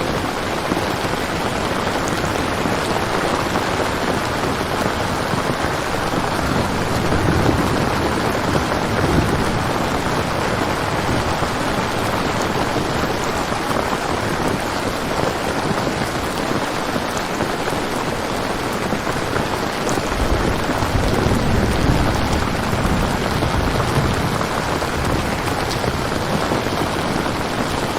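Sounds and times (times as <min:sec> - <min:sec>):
thunder rumbling: 0:00.0 - 0:14.7, 0:18.8 - 0:27.9
heavy rain: 0:00.0 - 0:27.9.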